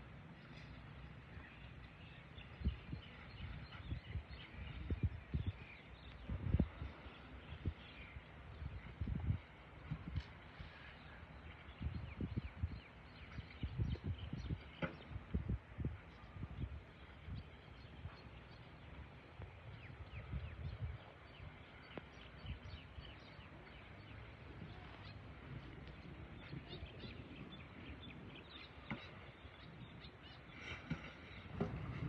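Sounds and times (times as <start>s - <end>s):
small birds chirping: 0.2s - 32.0s.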